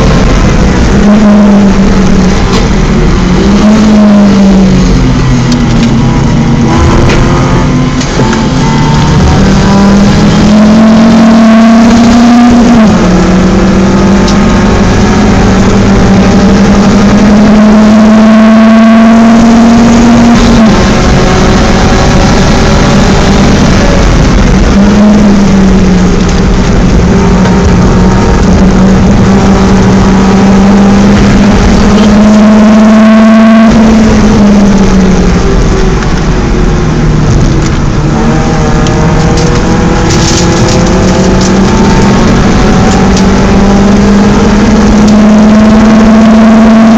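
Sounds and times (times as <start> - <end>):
car engine revving under load: 0.0 - 46.9.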